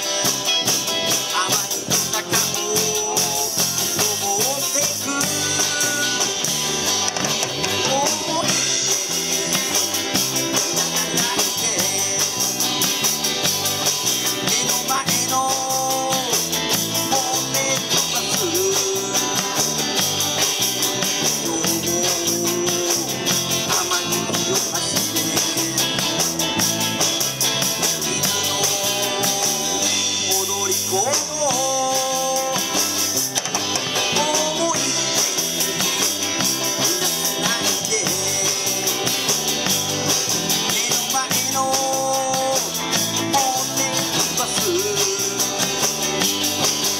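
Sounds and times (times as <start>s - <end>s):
drum kit beat: 0.0s - 46.9s
electric bass: 0.0s - 46.9s
electric guitars: 0.0s - 46.9s.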